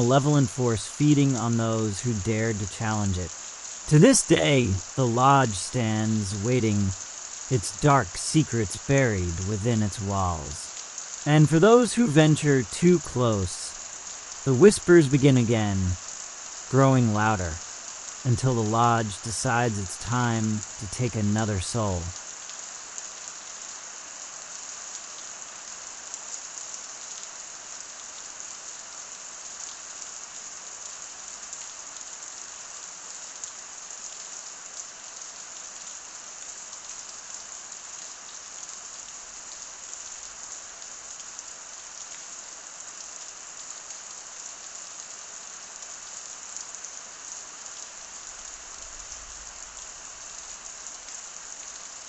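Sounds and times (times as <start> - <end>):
rain pattering on a surface: 0.0 - 52.0.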